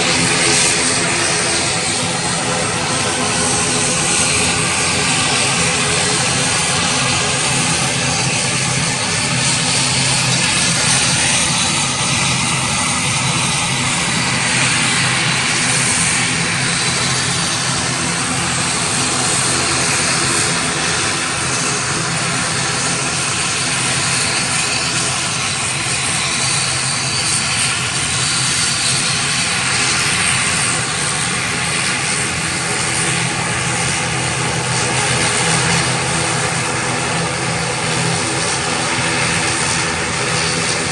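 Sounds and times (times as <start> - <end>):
engine hiss: 0.0 - 40.9
turboprop propeller drone: 0.0 - 40.9.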